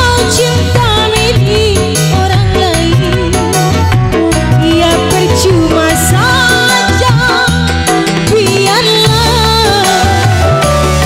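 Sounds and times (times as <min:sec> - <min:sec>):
live band music: 0:00.0 - 0:11.0
woman singing into microphone: 0:00.0 - 0:11.0.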